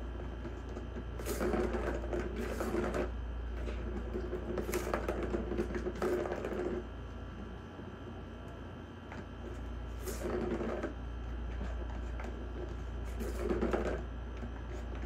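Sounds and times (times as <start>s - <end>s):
plastic ball rolling and rattling: 0.0s - 7.0s, 9.1s - 15.0s.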